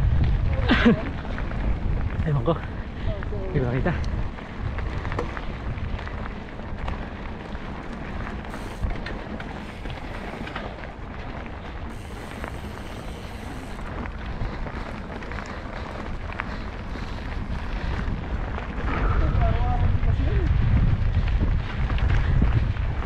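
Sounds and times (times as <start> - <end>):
bike clicks and rattles: 0.0 - 23.0
tyre noise on dirt: 0.0 - 23.0
wind rushing over microphone: 0.0 - 23.0.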